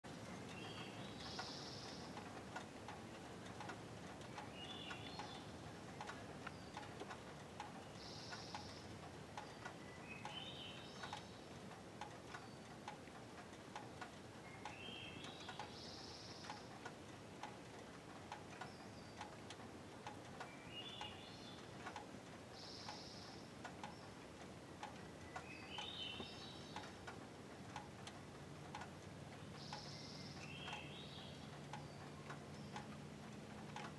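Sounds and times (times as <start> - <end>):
faint steady ticking: 0.1 - 33.9.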